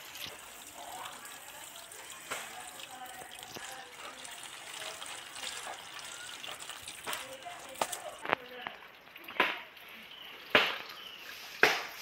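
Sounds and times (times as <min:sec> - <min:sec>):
hand washing fish in basket: 0:00.0 - 0:12.0
tap water running: 0:00.0 - 0:12.0.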